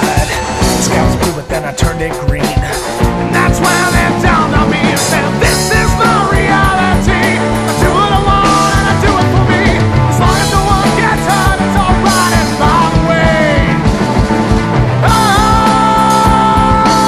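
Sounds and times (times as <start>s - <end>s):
bending lead guitar line: 0.0s - 17.0s
drums and cymbals: 0.0s - 17.0s
electric bass low notes: 0.0s - 17.0s
rock band playing: 0.0s - 17.0s.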